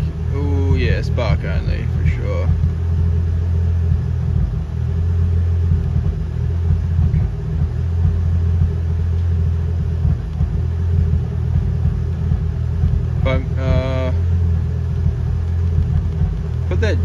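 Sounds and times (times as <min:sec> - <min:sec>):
turbocharged car engine idling: 0:00.0 - 0:17.0.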